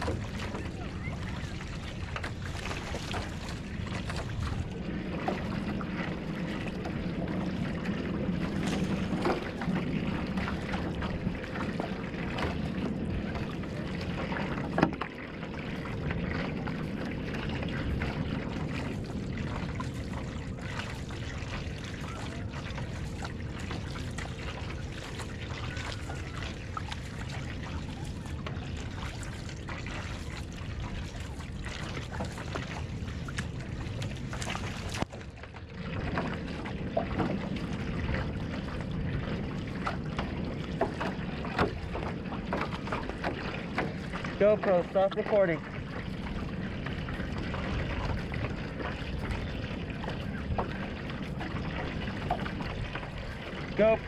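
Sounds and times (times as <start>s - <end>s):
paddle splashing in water: 0.0s - 54.0s
water running along hull: 0.0s - 54.0s.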